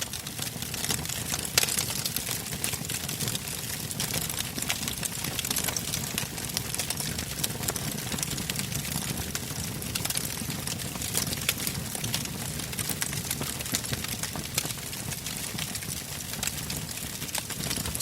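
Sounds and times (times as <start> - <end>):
fire rumbling: 0.0 - 18.0
logs crackling and popping: 0.0 - 18.0.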